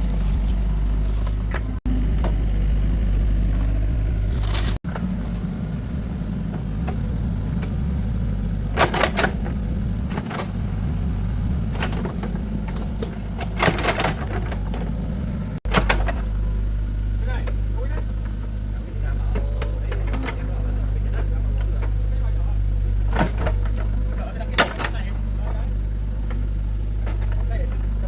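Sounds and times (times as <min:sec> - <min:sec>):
clanking and scraping: 0:00.0 - 0:28.0
excavator diesel engine running: 0:00.0 - 0:28.0.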